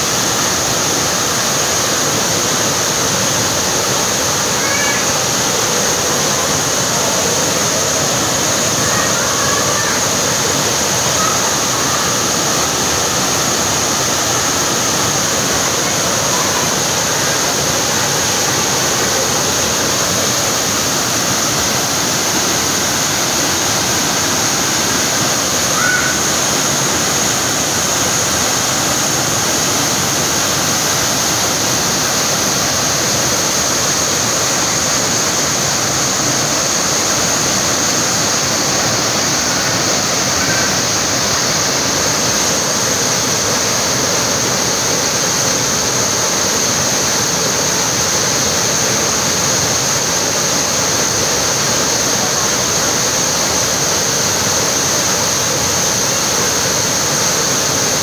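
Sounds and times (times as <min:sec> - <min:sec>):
waterfall rushing and splashing: 0:00.0 - 0:58.0.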